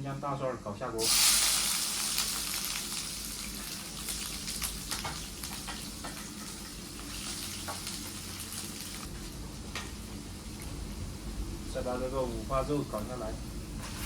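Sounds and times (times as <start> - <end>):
garlic sizzling in hot oil: 1.0 - 14.0.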